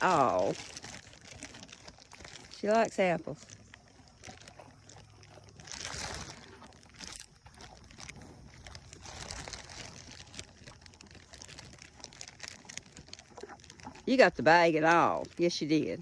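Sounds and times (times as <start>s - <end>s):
plastic bag rustling: 0.0s - 15.4s.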